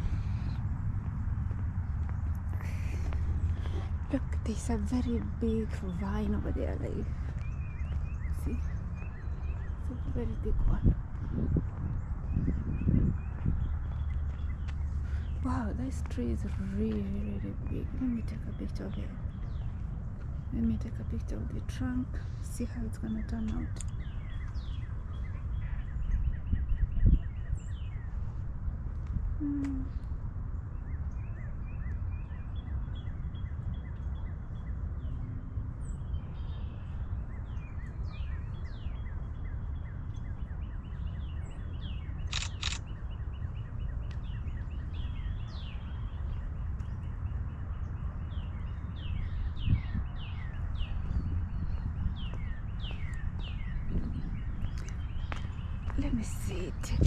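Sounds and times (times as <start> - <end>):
small birds chirping: 0.0 - 57.0
steady low rumble: 0.0 - 57.0.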